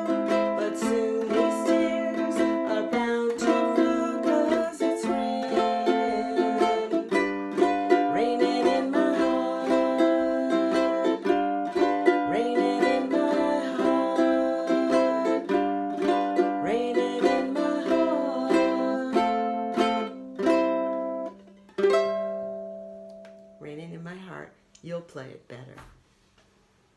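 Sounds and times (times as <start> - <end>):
ukulele strumming: 0.0 - 23.7.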